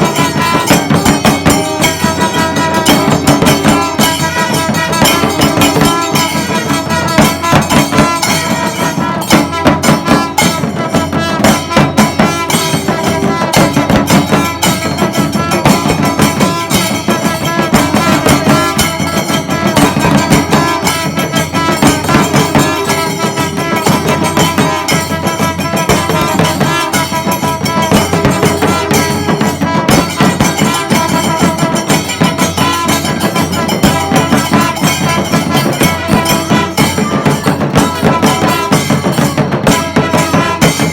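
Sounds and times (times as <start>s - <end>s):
dense drumming: 0.0s - 40.9s
horns holding tones: 0.0s - 40.9s.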